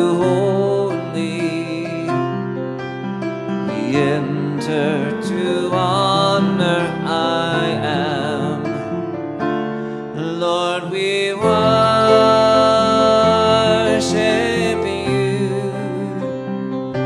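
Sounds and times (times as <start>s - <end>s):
man singing with vibrato: 0.0s - 2.5s, 3.6s - 8.9s, 10.1s - 16.8s
grand piano playing: 0.0s - 17.0s.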